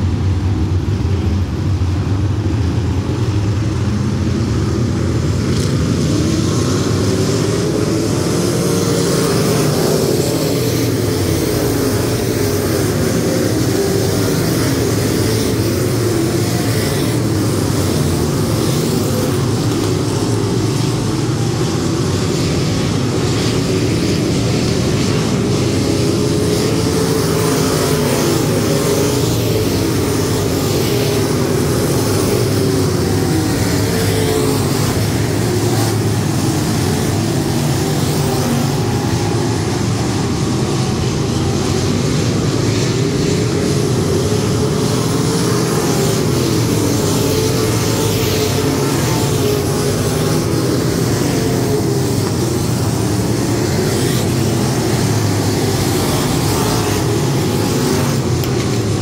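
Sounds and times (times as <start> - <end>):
race car engines running laps: 0.0 - 59.0.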